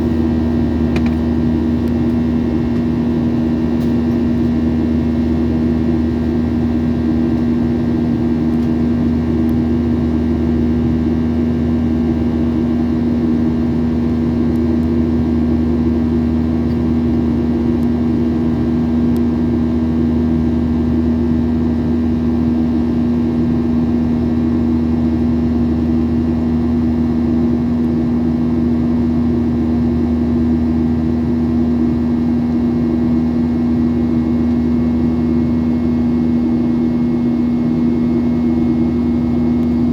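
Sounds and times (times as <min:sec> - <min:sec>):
steady hum: 0:00.0 - 0:23.3, 0:23.9 - 0:39.9
jet engines droning: 0:00.0 - 0:39.9.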